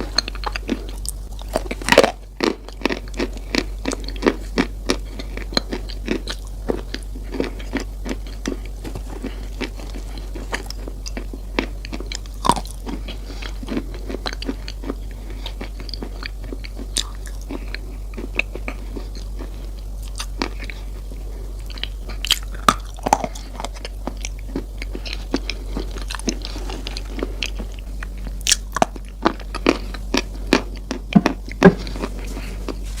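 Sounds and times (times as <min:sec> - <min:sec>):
chewing crunchy cereal: 0:00.0 - 0:33.0
steady low hum: 0:00.0 - 0:33.0.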